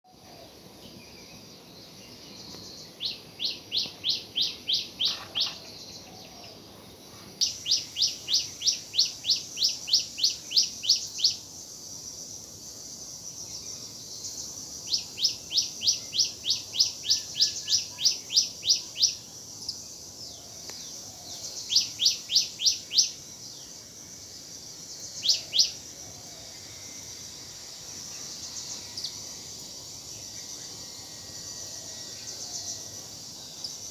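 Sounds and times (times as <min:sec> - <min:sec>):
steady high hiss: 0:00.1 - 0:33.9.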